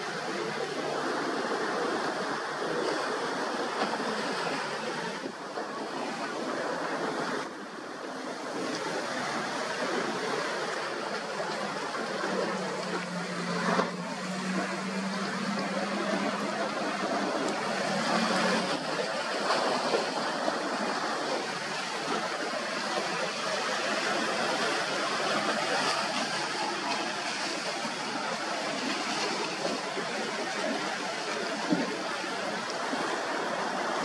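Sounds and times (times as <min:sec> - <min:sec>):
churning seawater: 0:00.0 - 0:34.0
waves splashing: 0:00.0 - 0:34.0.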